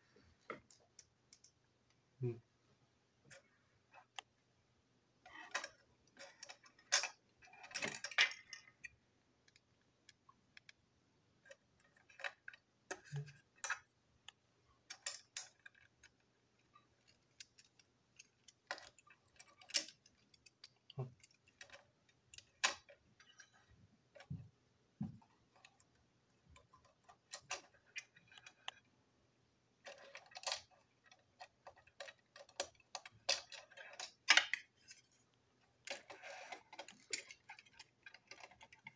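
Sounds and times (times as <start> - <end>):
small plastic parts clicking: 0.6 - 2.0, 5.2 - 10.8, 11.4 - 24.4, 25.2 - 28.9, 29.8 - 38.9.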